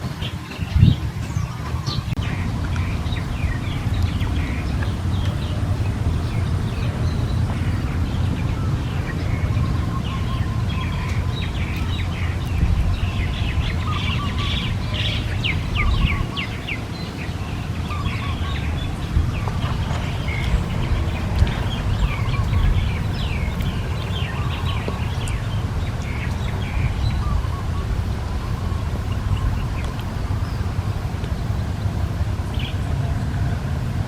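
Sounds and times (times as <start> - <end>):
small birds chirping: 0.0 - 33.2
steady low rumble: 0.0 - 34.0.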